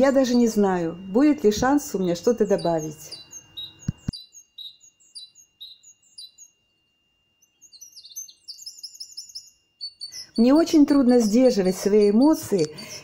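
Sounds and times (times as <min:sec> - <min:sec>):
songbirds whistling: 0:00.0 - 0:06.6, 0:07.4 - 0:12.1
high chirps: 0:00.0 - 0:12.2.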